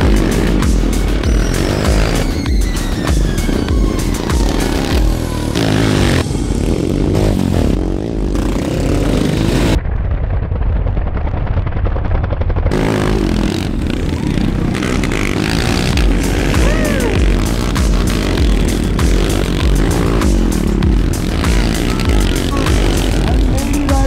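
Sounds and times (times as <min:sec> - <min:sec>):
motorcycle engines revving: 0:00.0 - 0:09.8, 0:12.3 - 0:24.0.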